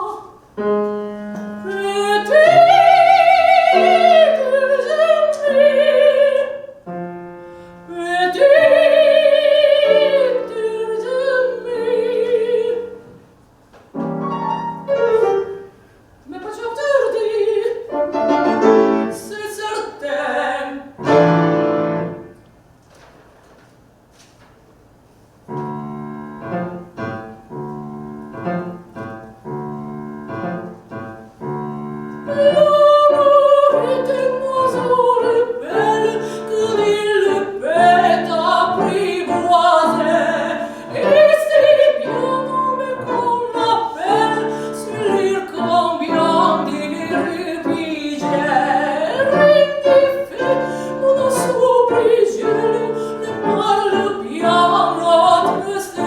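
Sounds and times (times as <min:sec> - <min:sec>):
soprano singing opera: 0:00.0 - 0:13.2, 0:14.8 - 0:22.2, 0:31.6 - 0:56.0
piano chords: 0:00.0 - 0:22.7, 0:25.4 - 0:56.0.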